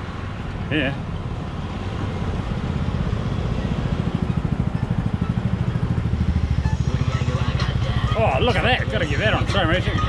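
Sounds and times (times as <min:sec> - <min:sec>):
vehicle engine running: 0:01.2 - 0:10.0.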